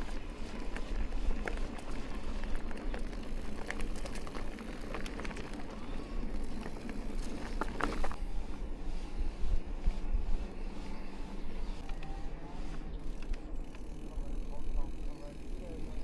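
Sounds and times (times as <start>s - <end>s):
bike tyres rolling on dirt: 0.0s - 16.0s.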